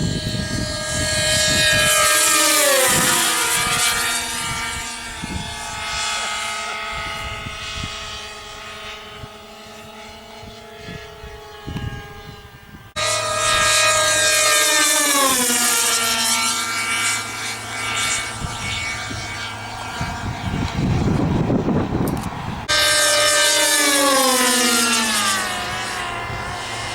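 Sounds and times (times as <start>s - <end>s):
model plane engines buzzing: 0.0s - 26.9s.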